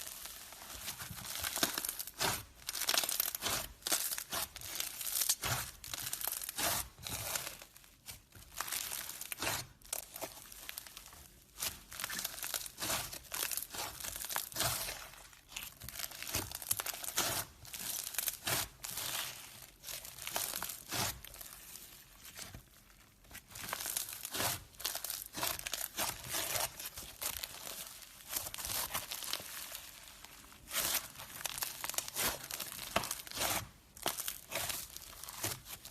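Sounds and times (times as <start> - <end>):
crunching and crinkling material: 0.0 - 35.9.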